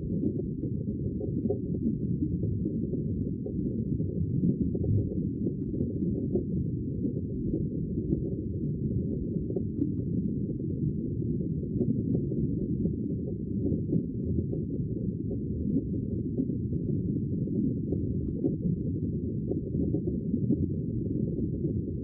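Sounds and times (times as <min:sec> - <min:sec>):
sea water deep muffled rumble: 0:00.0 - 0:22.0.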